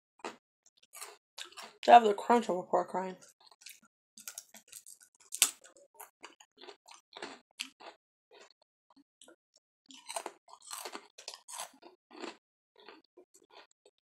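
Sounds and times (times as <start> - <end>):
person chewing crunchy rice cracker: 0.2 - 1.9, 3.2 - 14.0.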